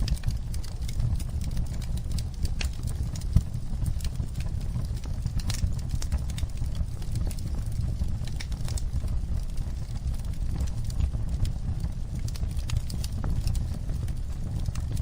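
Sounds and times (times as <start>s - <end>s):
sharp pops and snaps of fire: 0.0s - 15.0s
wood fire crackling: 0.0s - 15.0s.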